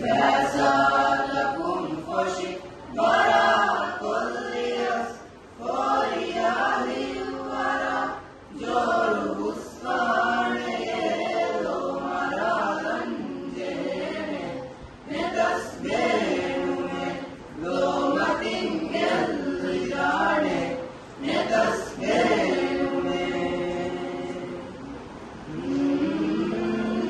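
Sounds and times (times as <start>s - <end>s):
children's choir singing unaccompanied: 0.0s - 27.0s.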